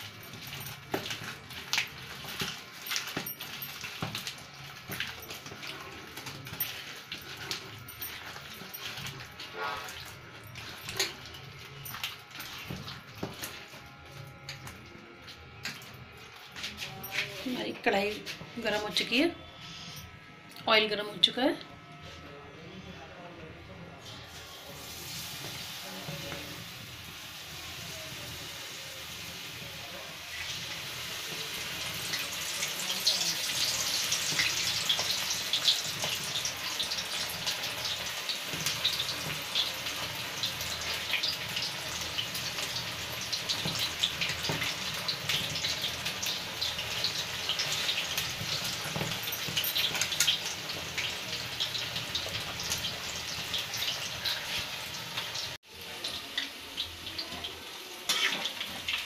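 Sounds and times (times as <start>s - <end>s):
battered food deep-frying in oil: 0.0s - 19.3s, 24.2s - 59.0s.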